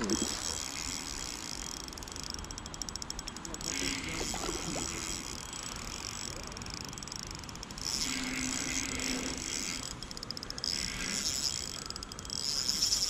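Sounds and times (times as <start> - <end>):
fishing reel whirring rattle: 0.0 - 13.0.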